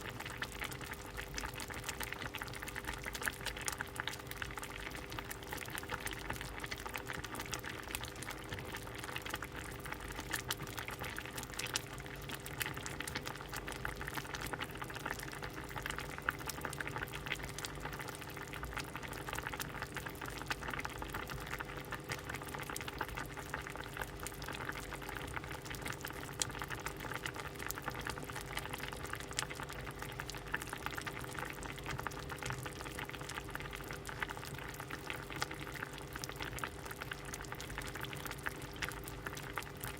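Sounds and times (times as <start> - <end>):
faint steady hum: 0.0 - 39.9
soup boiling and bubbling: 0.0 - 39.9.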